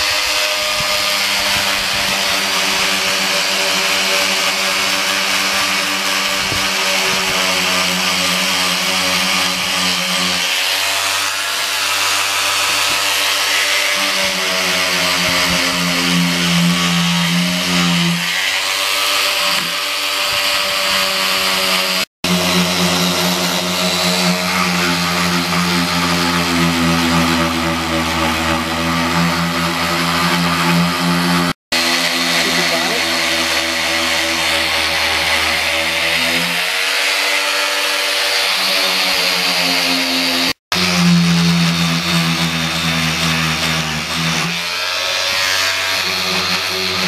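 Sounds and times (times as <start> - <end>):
angle grinder grinding metal: 0.0 - 47.0.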